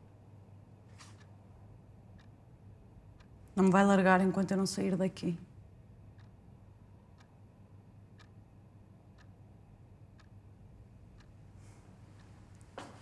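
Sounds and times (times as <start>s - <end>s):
low room hum: 0.0s - 13.0s
clock ticking: 1.2s - 13.0s.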